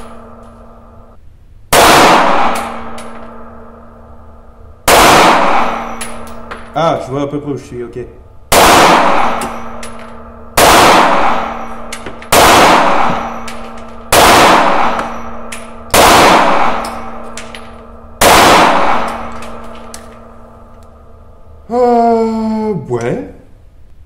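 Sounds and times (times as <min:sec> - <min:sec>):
pistol shots ringing indoors: 0:00.0 - 0:21.6.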